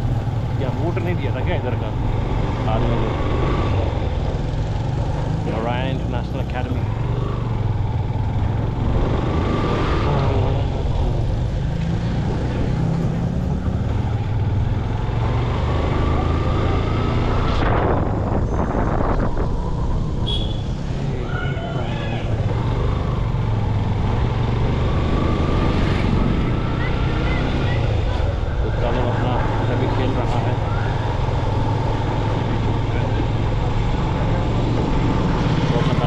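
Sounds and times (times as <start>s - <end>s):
motorcycle engine hum: 0.0s - 36.0s
road and wind noise: 0.0s - 36.0s.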